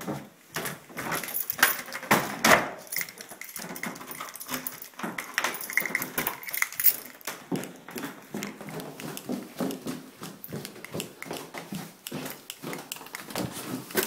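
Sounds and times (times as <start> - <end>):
footsteps: 0.0 - 2.0, 2.8 - 14.0
knocks and handling clatter: 0.0 - 14.0.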